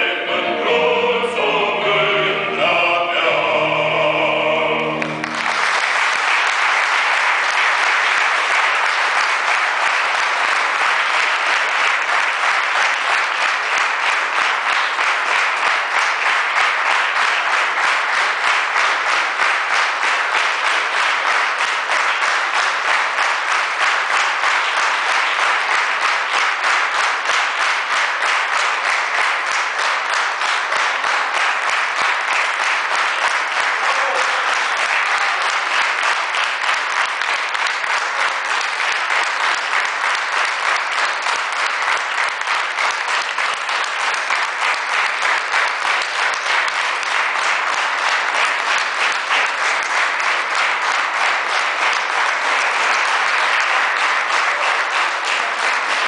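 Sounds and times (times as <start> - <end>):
audience applauding: 4.1 - 56.0.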